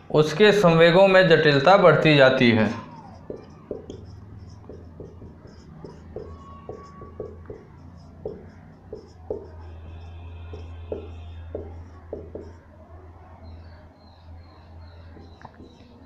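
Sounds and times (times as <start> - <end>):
marker squeaking on whiteboard: 2.5 - 16.0.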